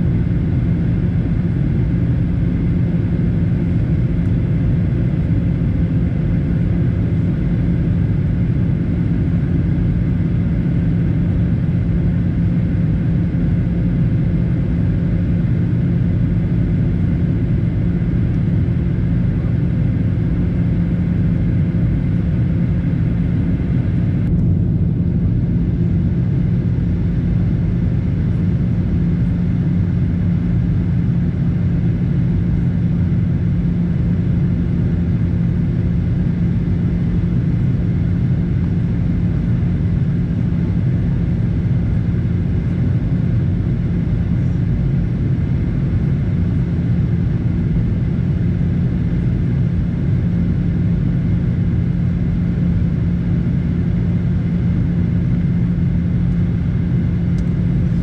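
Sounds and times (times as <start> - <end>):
airliner cabin engine drone: 0.0 - 58.0
strong low hum: 0.0 - 58.0.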